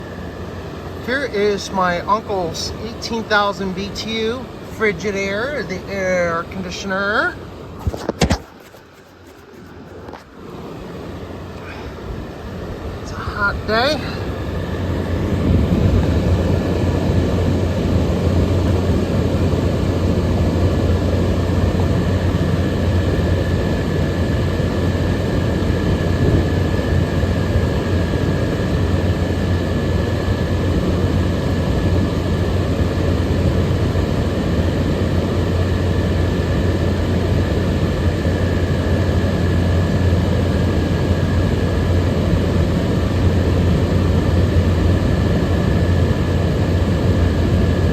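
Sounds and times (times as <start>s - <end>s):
air conditioner running: 0.0s - 47.9s.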